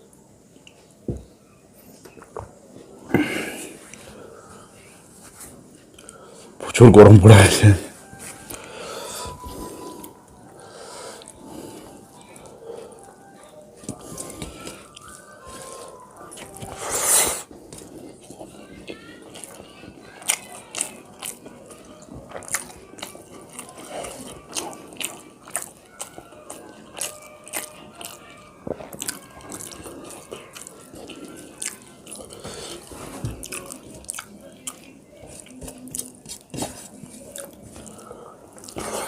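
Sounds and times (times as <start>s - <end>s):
person chewing food: 2.0s - 4.7s, 8.1s - 39.0s.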